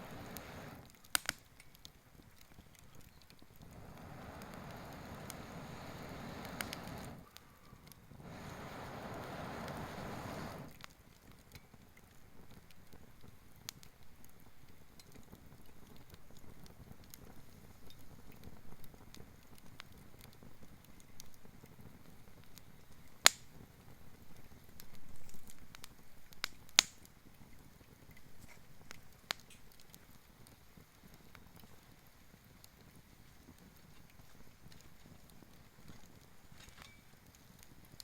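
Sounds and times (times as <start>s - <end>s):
sharp pops from fire: 0.0s - 38.0s
wood fire crackling: 0.0s - 38.0s.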